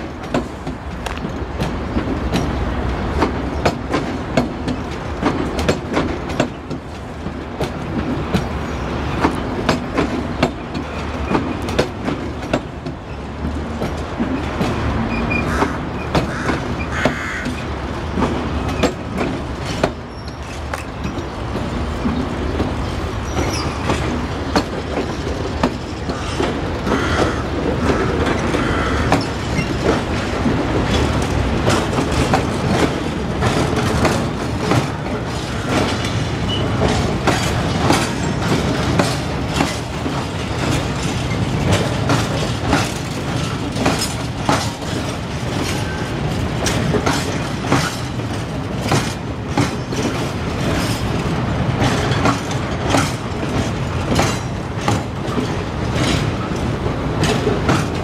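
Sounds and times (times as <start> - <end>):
train wheels rumbling on rail: 0.0 - 58.0
wheels clattering over track joints: 0.0 - 58.0.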